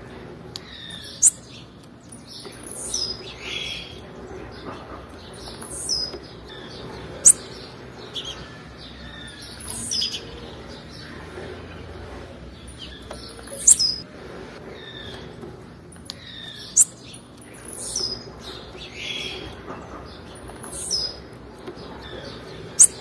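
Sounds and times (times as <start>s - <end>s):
bird chirping: 0.5s - 23.0s.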